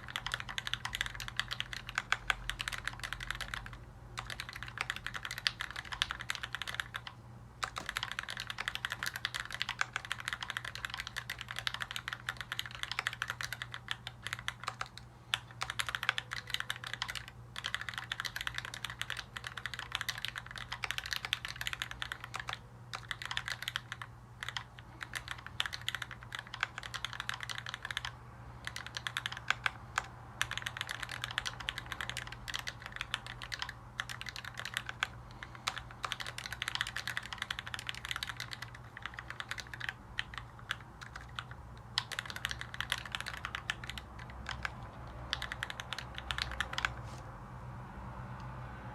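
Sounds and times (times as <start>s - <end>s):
mechanical keyboard typing: 0.0s - 47.0s.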